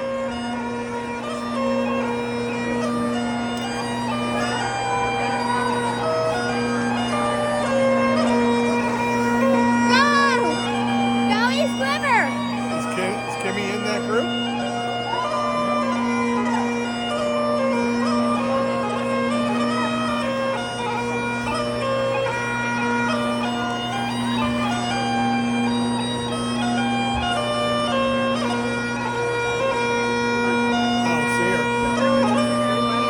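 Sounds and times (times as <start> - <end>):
bagpipes playing: 0.0 - 33.0.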